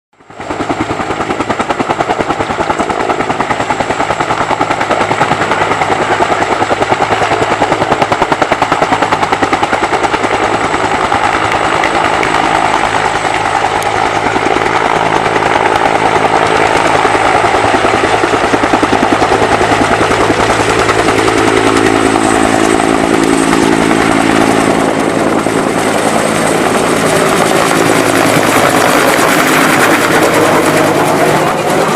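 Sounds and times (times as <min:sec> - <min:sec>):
helicopter rotor beating: 0:00.2 - 0:31.9.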